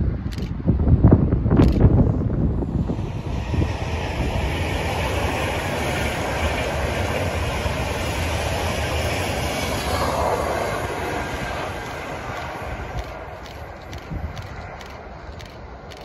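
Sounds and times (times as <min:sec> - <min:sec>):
train wheels on rails: 0:02.9 - 0:16.0.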